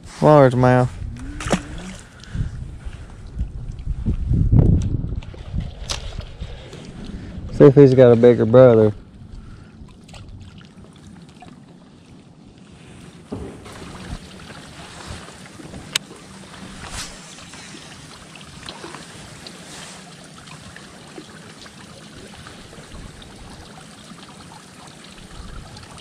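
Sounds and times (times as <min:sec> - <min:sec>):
light wind: 0:00.0 - 0:26.0
small waves lapping against boat: 0:00.7 - 0:04.1, 0:05.0 - 0:26.0.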